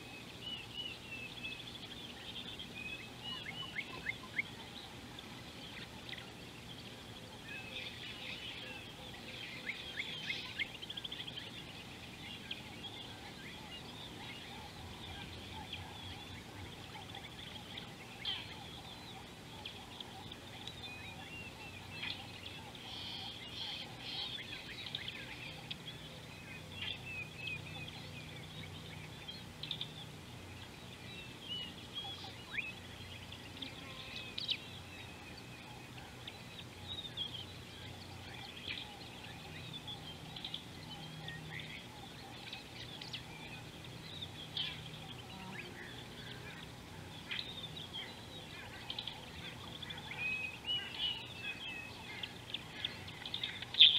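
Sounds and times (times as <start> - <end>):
faint low hum: 0.0 - 53.9
wild birds chirping: 0.0 - 53.9.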